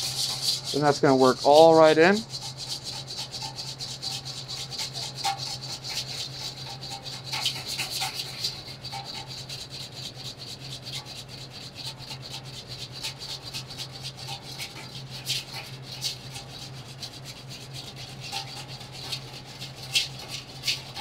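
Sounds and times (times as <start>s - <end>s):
whisk scraping metal bowl: 0.0s - 21.0s.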